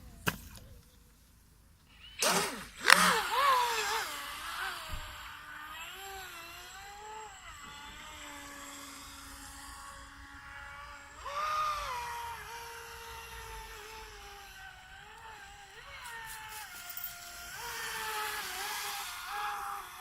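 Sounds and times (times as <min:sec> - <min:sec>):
electric motor whining: 0:01.9 - 0:20.0.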